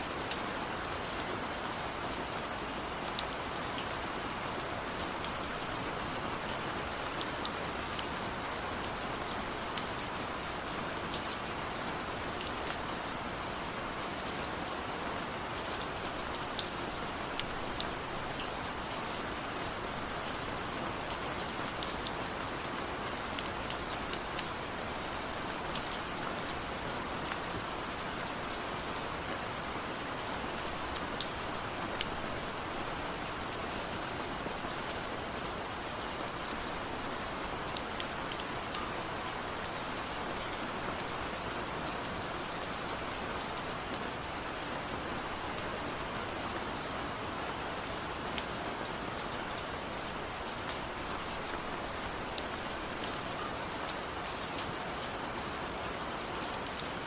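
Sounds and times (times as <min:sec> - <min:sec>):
raindrops ticking on surfaces: 0:00.0 - 0:57.0
steady rain: 0:00.0 - 0:57.0.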